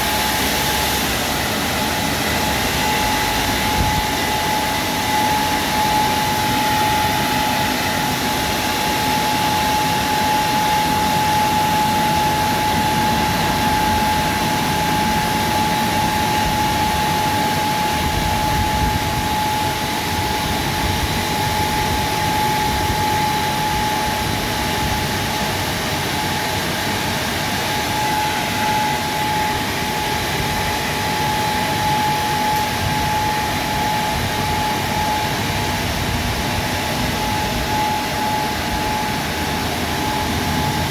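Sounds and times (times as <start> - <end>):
car wash machine rushing: 0.0 - 40.9
constant machine whine: 0.0 - 40.9.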